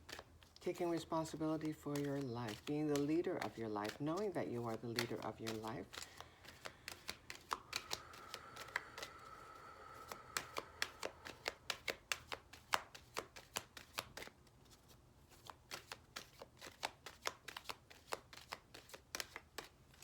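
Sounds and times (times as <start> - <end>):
cards being shuffled: 0.0 - 20.0.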